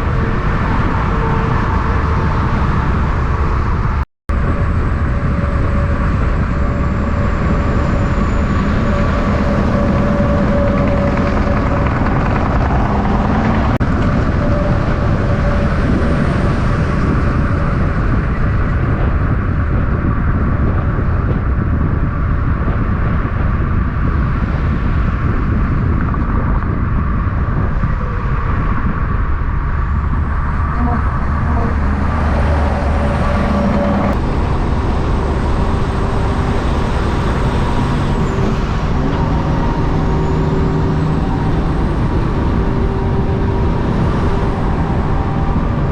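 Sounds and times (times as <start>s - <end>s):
heavy trucks driving past: 0.0s - 26.0s, 27.5s - 45.9s.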